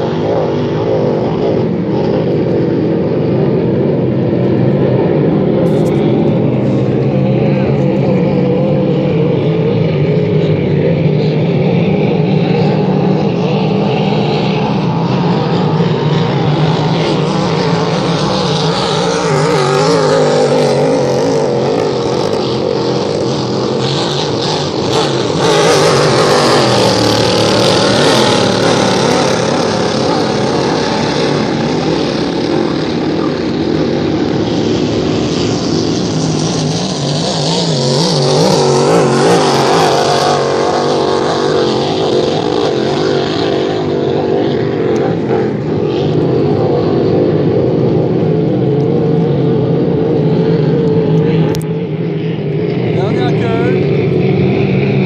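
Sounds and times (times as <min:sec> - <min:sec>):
racing boat engines droning: 0:00.0 - 0:55.0.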